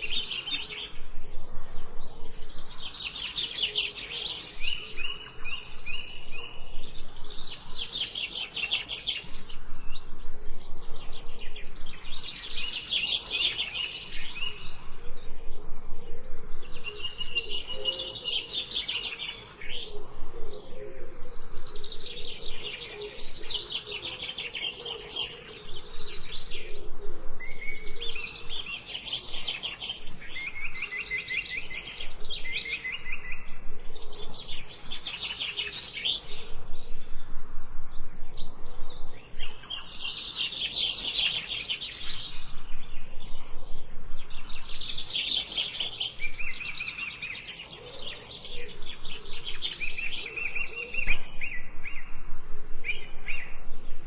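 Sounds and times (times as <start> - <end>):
songbirds singing trilled phrases: 0.0 - 54.0.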